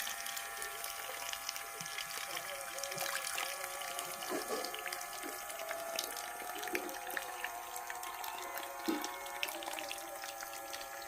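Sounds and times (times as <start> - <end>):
water gurgles: 0.0 - 11.0
water pump motor hum: 0.0 - 11.0.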